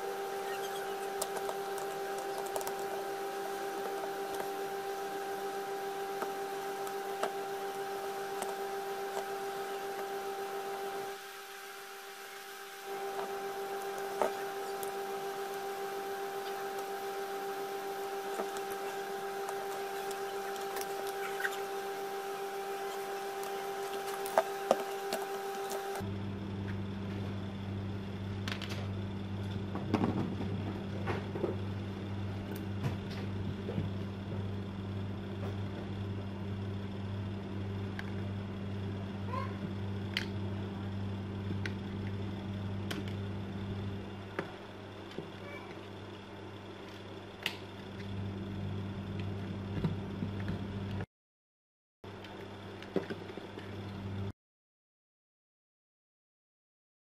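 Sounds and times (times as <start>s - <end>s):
steady electrical hum: 0.0s - 51.1s.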